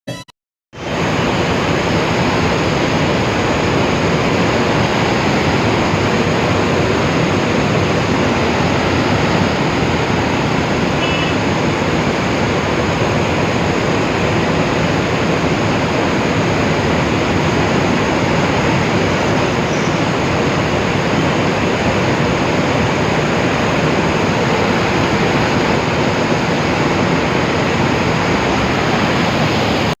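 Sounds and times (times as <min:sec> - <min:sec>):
waterfall rushing: 0:00.8 - 0:30.0.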